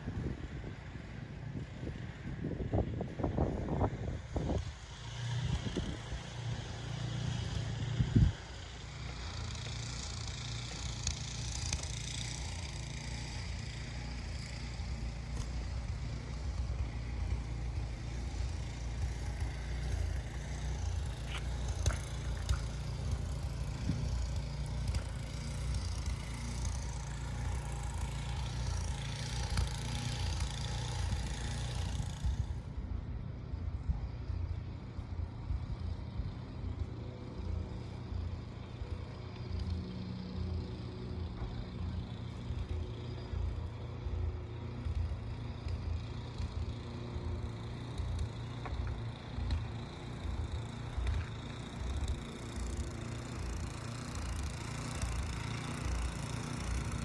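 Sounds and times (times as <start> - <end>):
vehicle rumble with hiss: 0.0 - 57.0.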